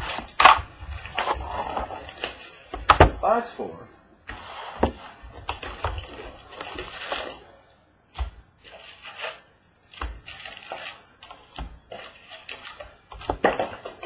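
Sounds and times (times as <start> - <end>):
card packaging rustling and scraping: 0.0 - 3.0, 4.3 - 14.0.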